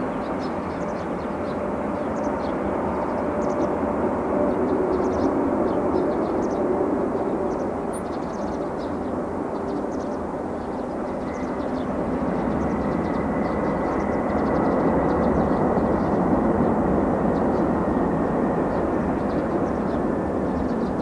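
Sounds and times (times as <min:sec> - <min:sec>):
high jet whine: 0:00.0 - 0:21.0
jet engine rumble: 0:00.0 - 0:21.0.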